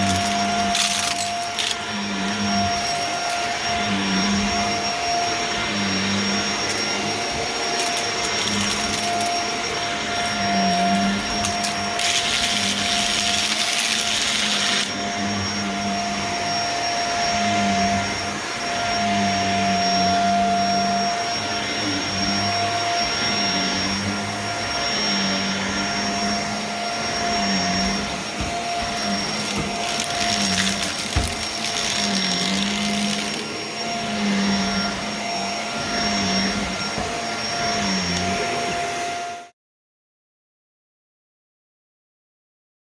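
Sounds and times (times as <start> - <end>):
vacuum cleaner whining: 0.0 - 39.5.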